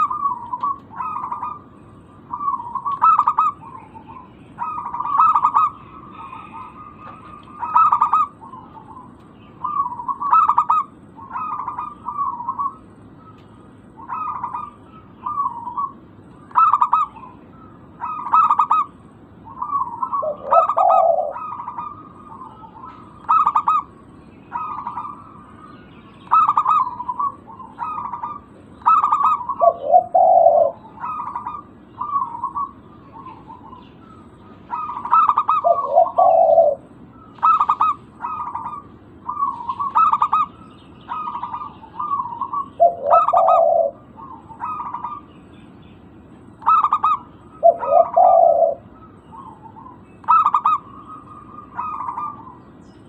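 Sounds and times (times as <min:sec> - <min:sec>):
doves cooing: 0:00.0 - 0:52.8.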